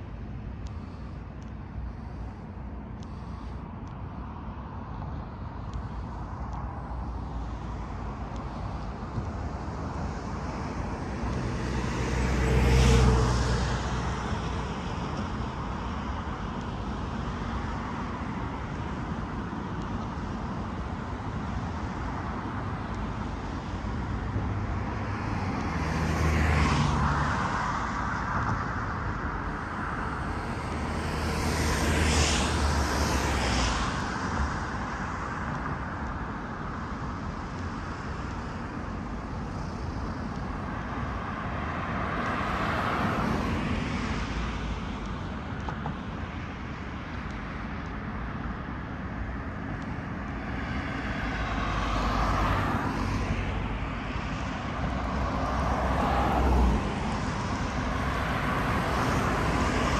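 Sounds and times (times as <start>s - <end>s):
road traffic noise: 0.0s - 59.9s
vehicles passing by: 0.0s - 59.9s.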